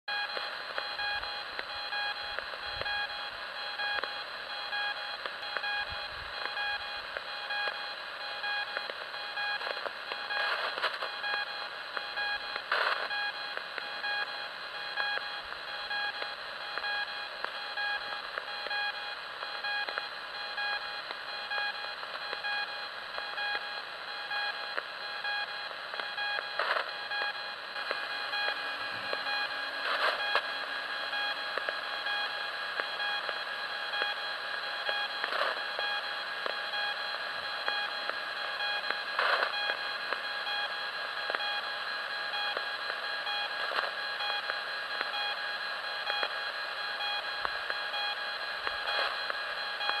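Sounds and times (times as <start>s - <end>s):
static crackles: 0.1s - 50.0s
radio hiss: 0.3s - 50.0s.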